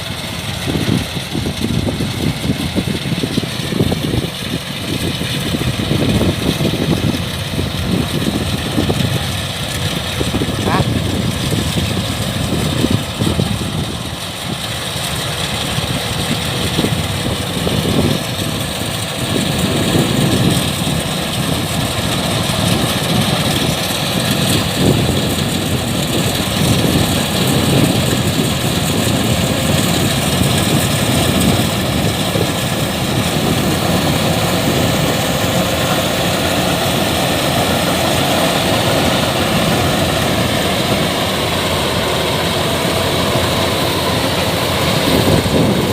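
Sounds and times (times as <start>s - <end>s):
combine harvester engine droning: 0.0s - 45.9s.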